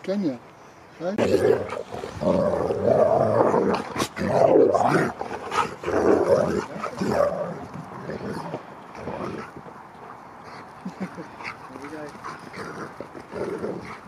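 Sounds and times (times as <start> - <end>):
huskies vocalising: 1.2 - 14.0.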